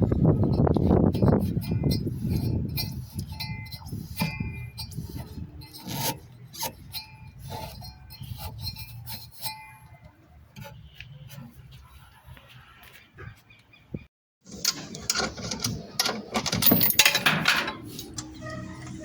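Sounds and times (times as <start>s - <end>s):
rubbing and scraping: 0.0s - 13.5s, 14.5s - 19.0s.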